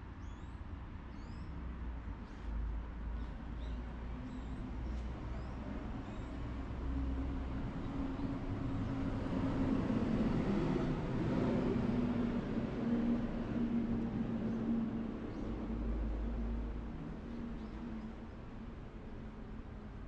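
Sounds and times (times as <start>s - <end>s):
road noise: 0.6s - 20.0s.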